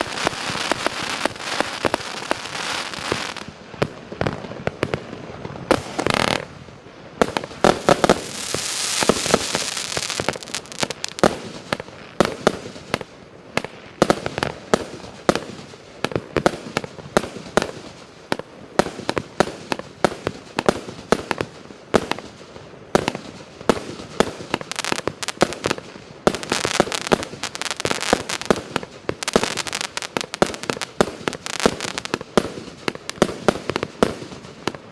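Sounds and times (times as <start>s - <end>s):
firework pops and bangs: 0.0s - 6.6s, 7.2s - 34.9s
firework hissing crackle: 0.0s - 34.9s.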